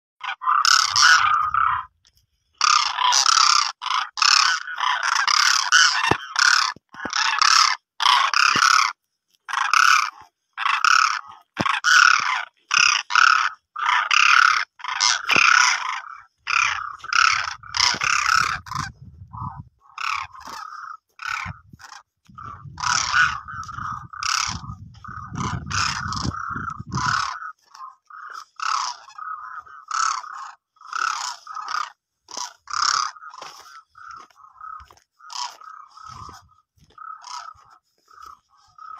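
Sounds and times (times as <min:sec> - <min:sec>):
cranes calling: 0:00.2 - 0:38.9.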